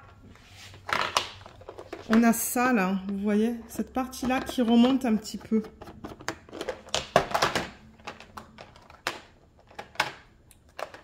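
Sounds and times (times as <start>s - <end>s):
plastic boxes clicking and knocking: 0.8s - 11.0s.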